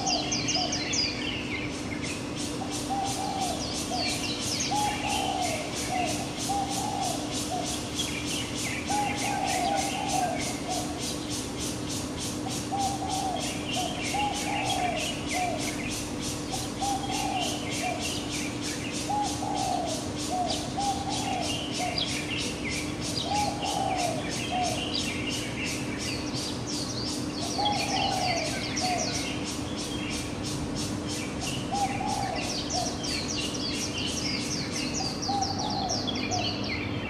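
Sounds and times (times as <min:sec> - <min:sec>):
bird cooing: 0:00.0 - 0:36.8
small birds chirping: 0:00.0 - 0:37.0
steady low hum: 0:00.0 - 0:37.0.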